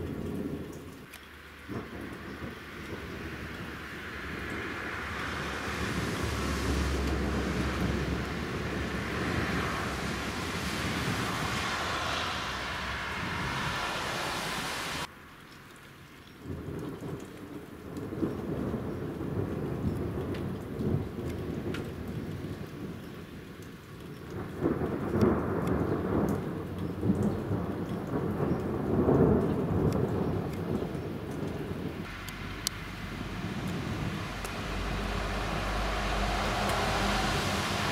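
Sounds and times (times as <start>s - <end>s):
raindrop ticks: 0.0s - 13.2s, 15.0s - 37.9s
rolling thunder: 0.0s - 15.1s, 16.5s - 37.9s
rain hissing: 0.0s - 37.9s.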